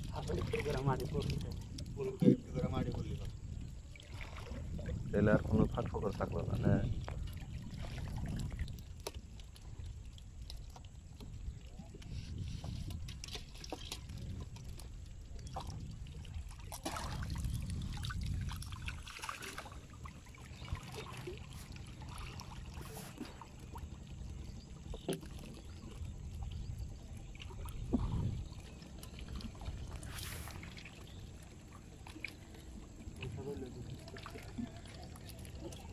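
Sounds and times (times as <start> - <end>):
river water sloshing: 0.0 - 35.9.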